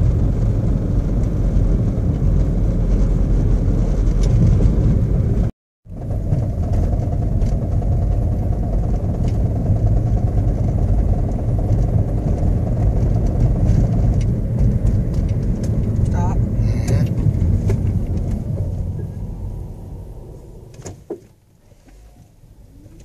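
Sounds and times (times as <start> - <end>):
car road rumble: 0.0 - 23.0.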